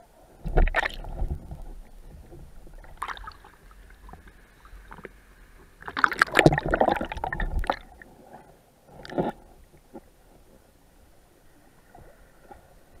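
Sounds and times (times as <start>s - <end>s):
water splashing and sloshing: 0.3s - 10.8s.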